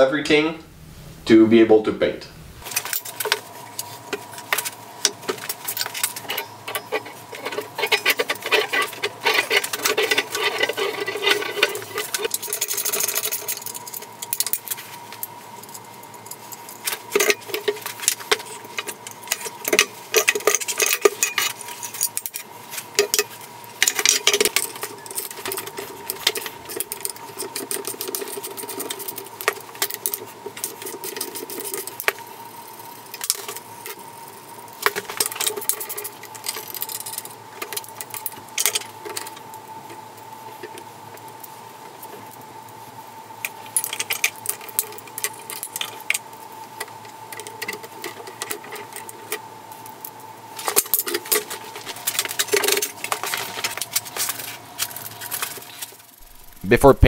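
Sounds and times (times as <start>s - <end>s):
faint steady whine: 0.0s - 57.0s.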